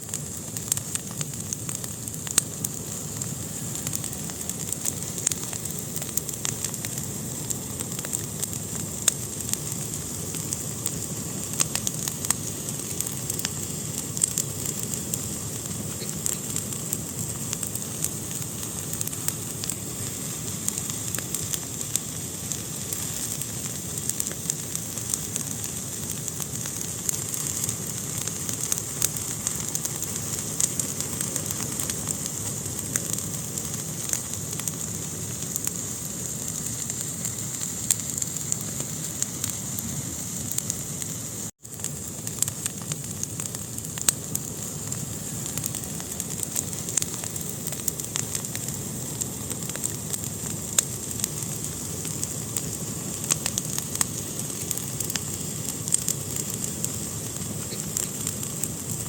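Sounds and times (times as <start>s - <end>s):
fire burning in a fireplace: 0.0s - 59.0s
fire crackles and pops: 0.0s - 59.0s.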